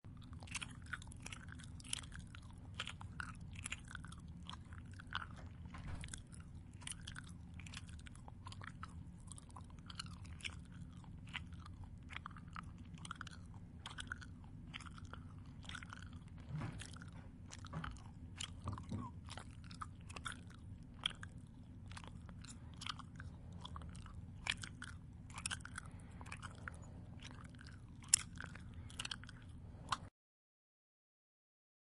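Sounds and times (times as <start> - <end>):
faint low hum: 0.1 - 30.1
mouth chewing crunchy food: 0.1 - 30.1.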